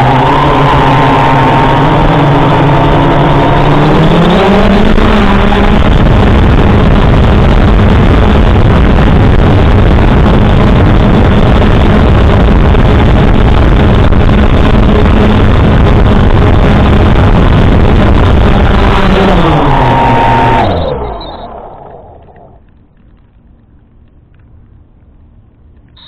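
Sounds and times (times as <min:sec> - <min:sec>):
drone propellers whirring: 0:00.0 - 0:23.1.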